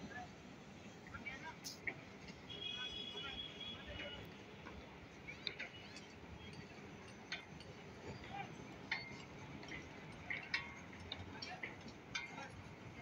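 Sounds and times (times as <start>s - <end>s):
low city rumble: 0.0s - 13.0s.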